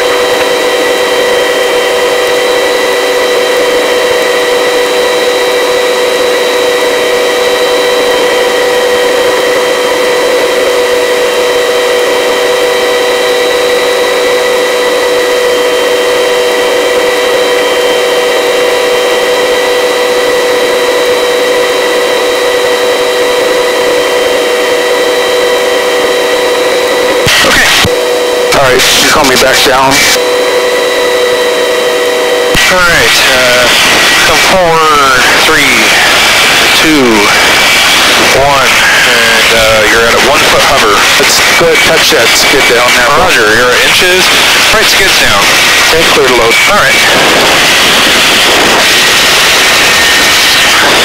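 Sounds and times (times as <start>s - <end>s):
helicopter hovering: 0.0s - 51.0s.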